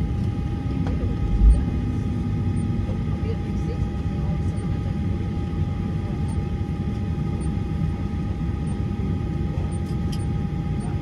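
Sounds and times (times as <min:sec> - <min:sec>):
aircraft cabin engine rumble: 0:00.0 - 0:11.0
faint steady whine: 0:00.0 - 0:11.0.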